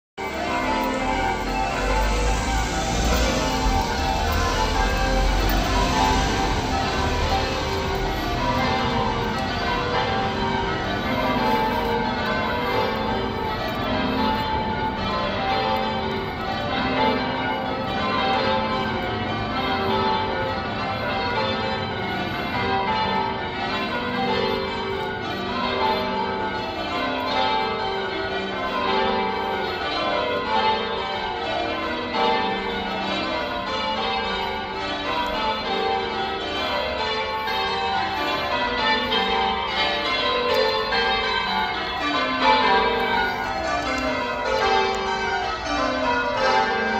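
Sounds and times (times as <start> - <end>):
church bells change ringing: 0.2 - 46.9.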